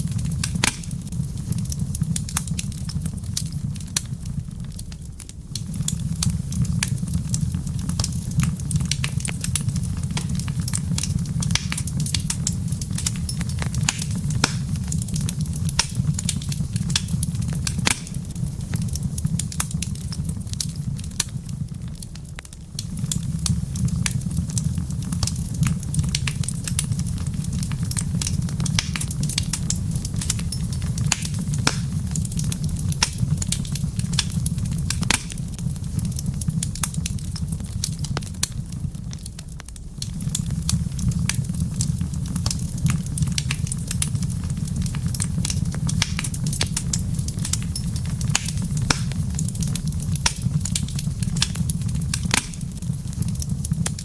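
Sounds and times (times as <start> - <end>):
wood fire popping and snapping: 0.0 - 54.0.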